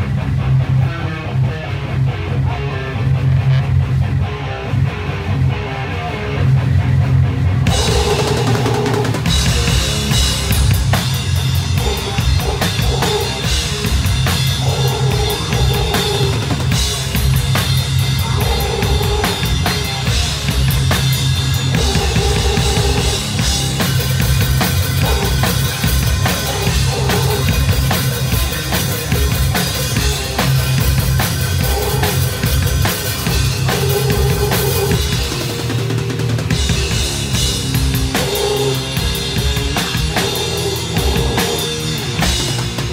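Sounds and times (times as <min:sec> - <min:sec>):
metal band playing live: 0:00.0 - 0:42.9
dense drumming: 0:07.7 - 0:42.9.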